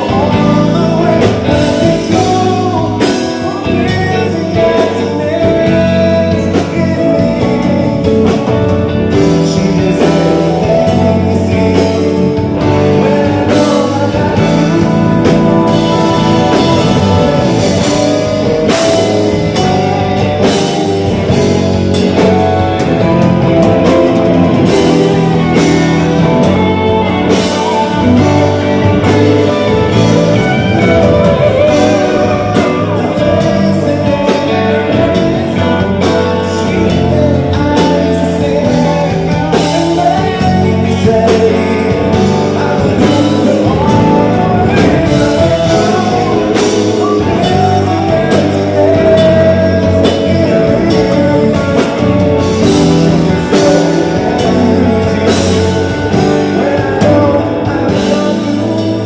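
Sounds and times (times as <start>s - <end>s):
live band playing pop ballad: 0.0s - 59.0s
male lead vocal: 0.0s - 59.0s.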